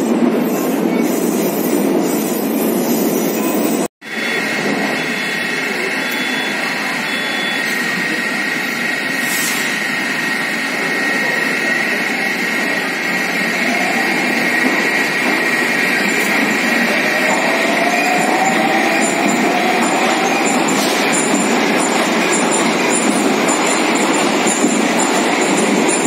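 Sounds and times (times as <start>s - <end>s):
train humming: 0.0s - 26.0s
train doors closing: 3.4s - 26.0s.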